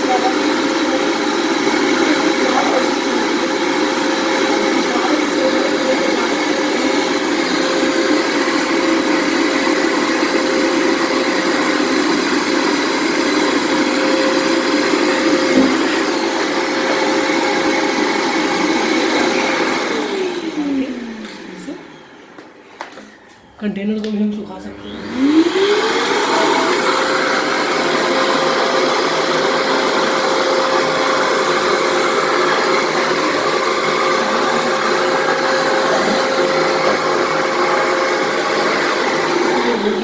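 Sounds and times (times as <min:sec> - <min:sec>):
vacuum cleaner motor whining: 0:00.0 - 0:40.0.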